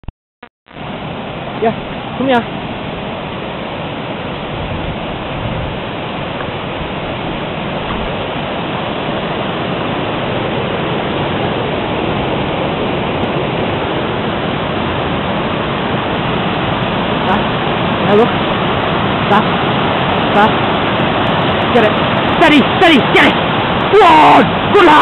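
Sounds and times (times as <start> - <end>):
river rushing over weir: 0.7 - 25.0.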